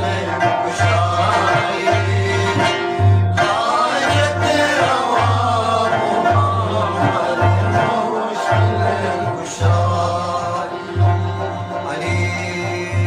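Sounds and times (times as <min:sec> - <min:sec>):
frame drums beating: 0:00.0 - 0:13.0
plucked lute melody: 0:00.0 - 0:13.0.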